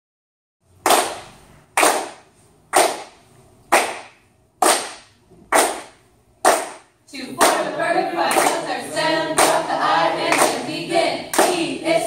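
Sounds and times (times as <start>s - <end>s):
group clapping in unison: 0.8s - 12.0s.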